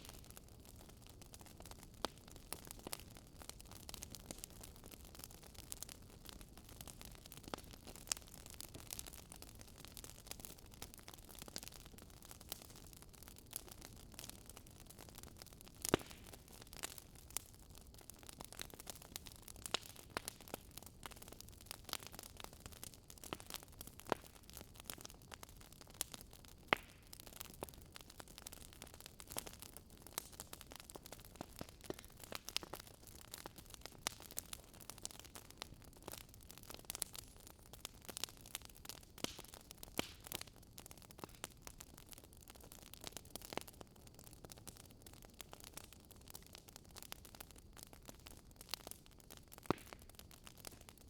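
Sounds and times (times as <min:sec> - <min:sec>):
burning logs popping: 0:00.0 - 0:51.0
wood fire crackling: 0:00.0 - 0:51.0.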